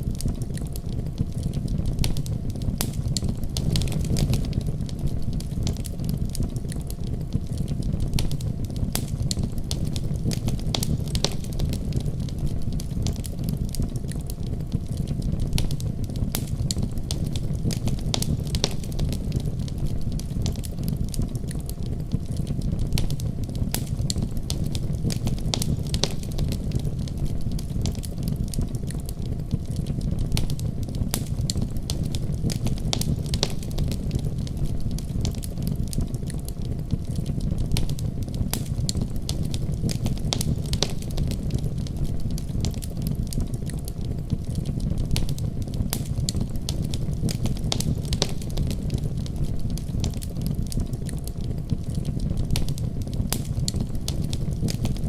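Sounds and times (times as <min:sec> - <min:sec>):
fireplace crackling and popping: 0:00.0 - 0:55.0.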